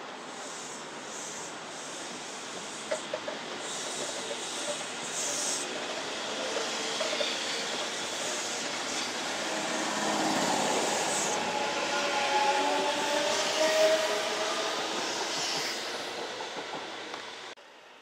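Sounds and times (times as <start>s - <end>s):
electric train rushing: 1.2s - 17.5s
train whining tones: 2.1s - 17.6s.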